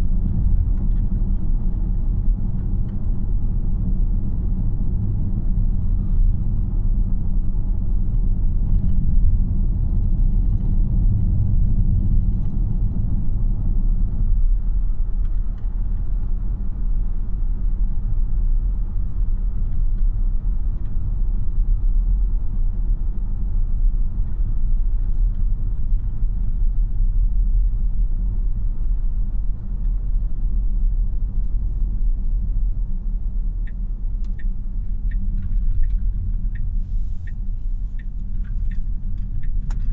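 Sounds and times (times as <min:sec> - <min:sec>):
road and tyre noise in car: 0:00.0 - 0:39.9.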